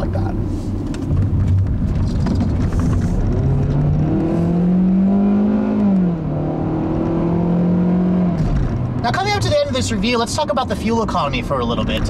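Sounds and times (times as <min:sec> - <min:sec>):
car engine accelerating: 0:00.0 - 0:12.0
road rumble: 0:00.0 - 0:12.0.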